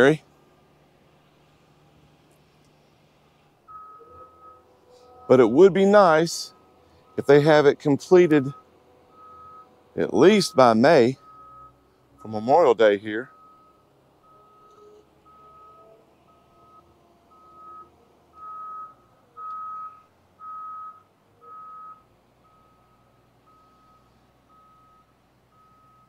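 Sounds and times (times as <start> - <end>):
vehicle reversing alarm beeping: 3.6 - 26.0.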